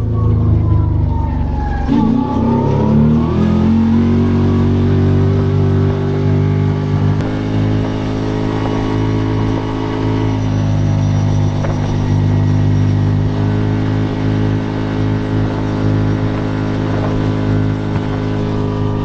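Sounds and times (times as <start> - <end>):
vehicle engine winding down and idling: 0.0 - 19.0.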